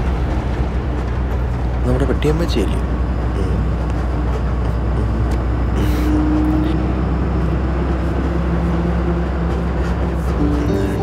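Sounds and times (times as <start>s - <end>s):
bus engine and road drone: 0.0s - 11.0s.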